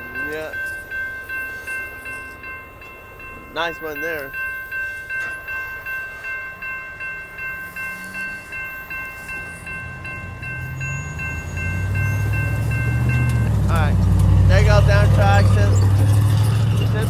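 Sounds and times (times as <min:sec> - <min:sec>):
crossing warning bell ringing: 0:00.0 - 0:17.0.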